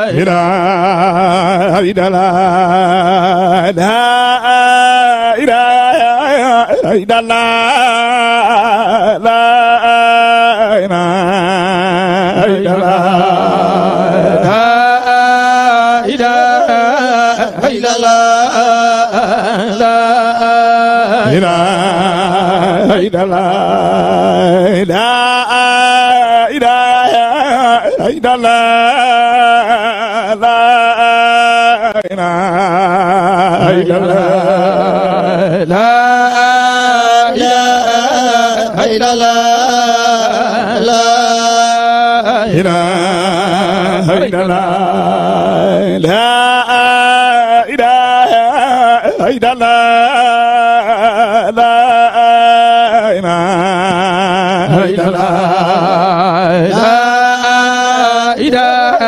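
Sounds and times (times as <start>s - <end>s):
man chanting into a microphone: 0.0s - 59.0s.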